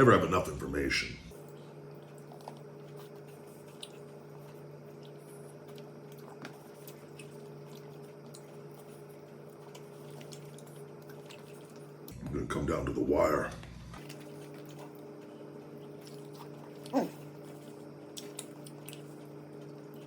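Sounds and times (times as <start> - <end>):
low electrical hum: 0.0 - 20.0
wet chewing and mouth clicks: 1.4 - 12.2, 14.0 - 20.0.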